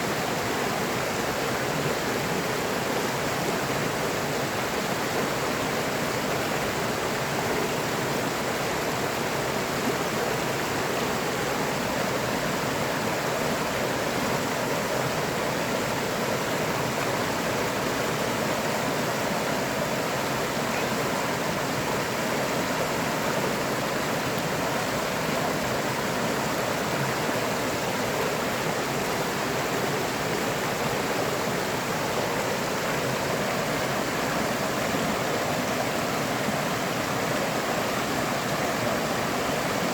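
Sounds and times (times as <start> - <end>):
rushing stream water: 0.0 - 39.9.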